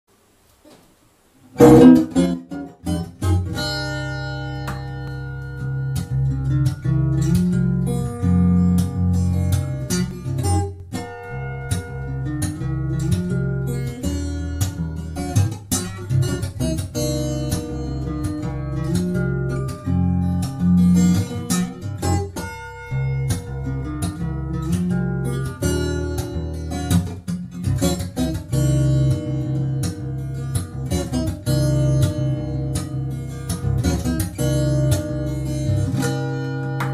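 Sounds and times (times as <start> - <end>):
fingerstyle acoustic guitar: 1.5 - 36.9.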